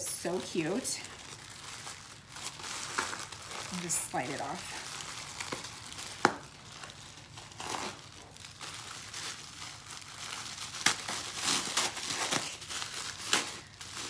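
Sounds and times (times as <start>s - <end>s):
wrapping paper crinkling: 0.0s - 14.0s.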